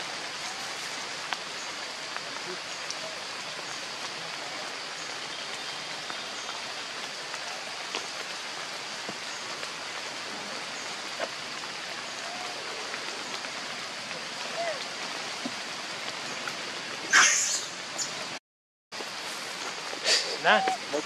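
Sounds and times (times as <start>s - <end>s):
light rain hissing: 0.0s - 18.4s, 19.0s - 21.0s.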